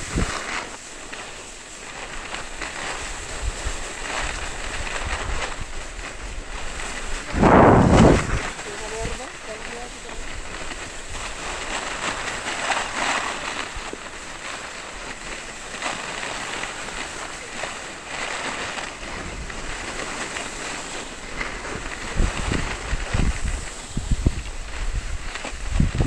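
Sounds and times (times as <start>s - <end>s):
wind buffeting microphone: 0.0s - 0.9s, 1.7s - 26.0s
skis scraping over snow: 0.0s - 26.0s.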